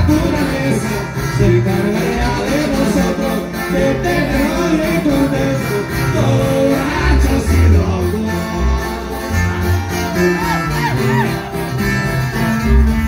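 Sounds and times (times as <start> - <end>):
man singing into a microphone: 0.0 - 11.5
guitar: 0.0 - 13.0
heavy bass line: 0.0 - 13.0.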